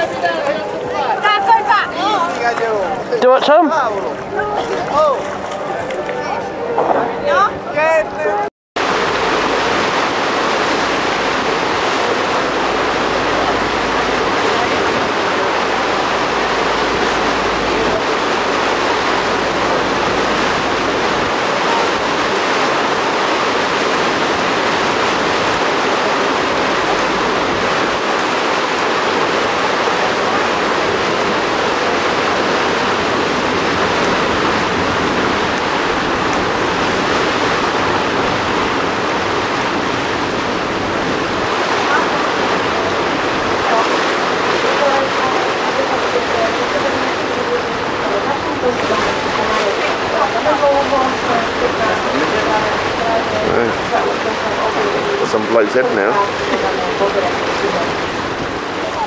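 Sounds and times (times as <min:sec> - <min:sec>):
water rushing: 0:00.0 - 0:59.0
wind: 0:00.0 - 0:59.0.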